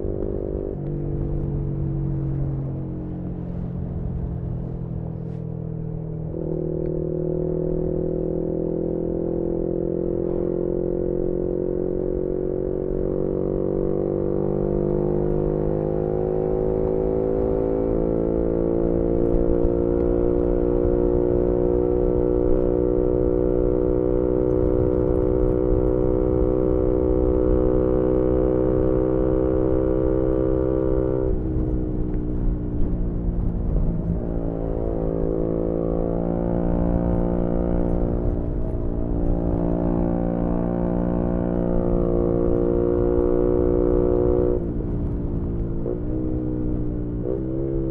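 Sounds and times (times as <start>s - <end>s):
motorcycle engine: 0.0s - 47.9s
wind and road rumble: 0.0s - 47.9s.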